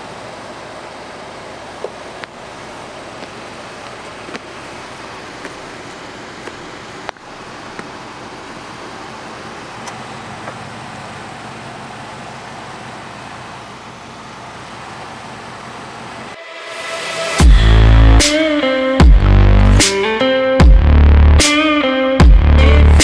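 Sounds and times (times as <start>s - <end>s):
vehicle engine running: 0.0s - 16.4s, 17.4s - 19.8s, 20.6s - 21.4s, 22.2s - 23.0s.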